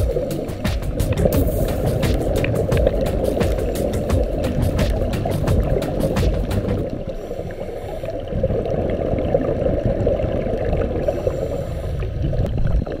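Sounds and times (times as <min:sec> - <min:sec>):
muffled underwater rumble: 0:00.0 - 0:13.0
regulator bubbles gurgling: 0:00.0 - 0:13.0.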